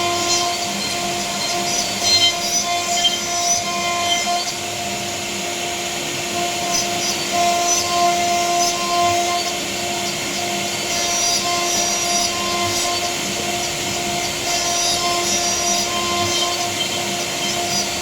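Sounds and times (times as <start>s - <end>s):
cnc router spindle whine: 0.0s - 18.0s.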